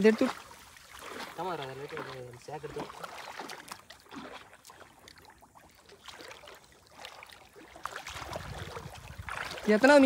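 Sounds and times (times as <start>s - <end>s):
pond water sloshing and splashing: 0.0s - 10.0s
wading steps splashing: 0.0s - 10.0s.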